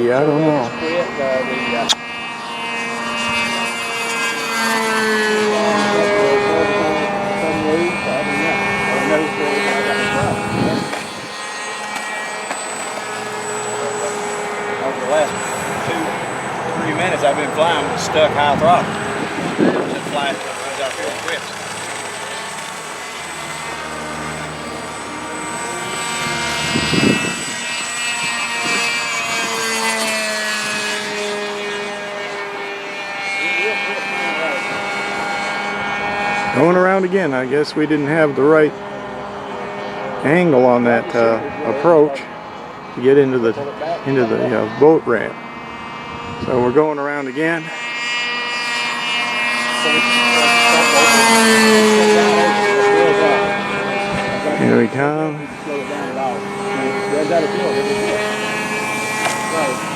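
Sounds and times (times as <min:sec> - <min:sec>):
model plane motor droning: 0:00.0 - 0:59.9.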